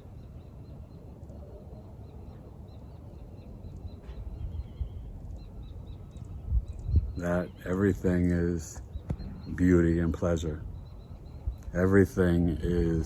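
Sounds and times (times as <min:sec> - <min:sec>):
faint bird chirps: 0:00.0 - 0:13.0
wind rumble on microphone: 0:00.0 - 0:13.0.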